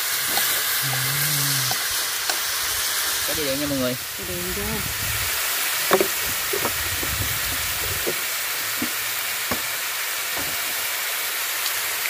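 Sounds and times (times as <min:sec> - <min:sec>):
meat frying in a wok: 0:00.0 - 0:12.0.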